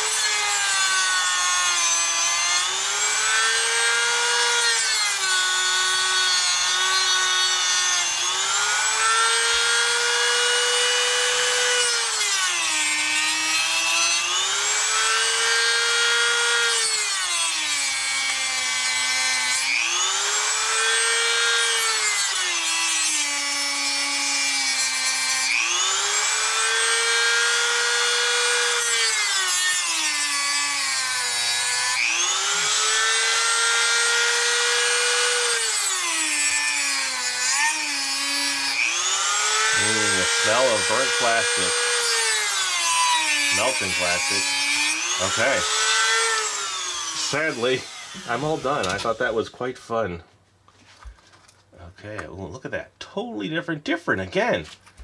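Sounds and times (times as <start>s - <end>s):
power tool whine: 0.0s - 49.4s
rasping of plastic being cut: 0.0s - 49.4s.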